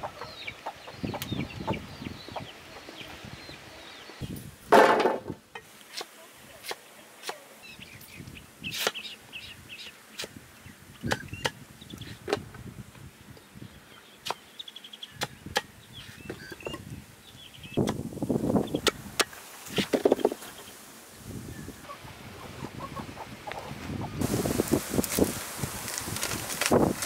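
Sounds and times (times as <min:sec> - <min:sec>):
birds chirping: 0:00.0 - 0:04.5, 0:06.2 - 0:19.0, 0:19.7 - 0:24.7.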